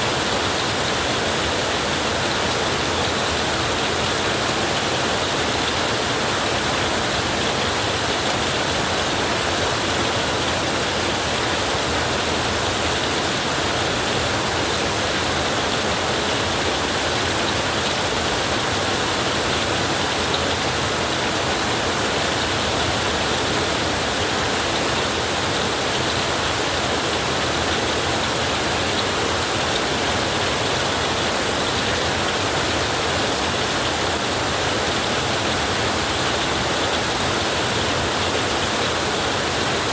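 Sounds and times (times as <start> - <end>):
heavy rain on a tin roof: 0.1 - 39.9.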